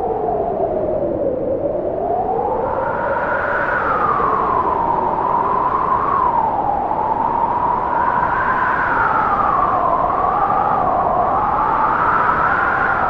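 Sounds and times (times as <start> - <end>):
howling wind: 0.0 - 13.0.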